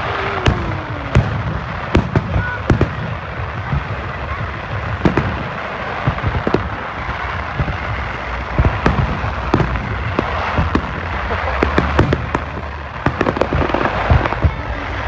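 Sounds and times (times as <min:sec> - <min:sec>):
fireworks bangs and pops: 0:00.0 - 0:15.0
fireworks crackle: 0:00.0 - 0:15.0
low rumble: 0:00.0 - 0:15.0.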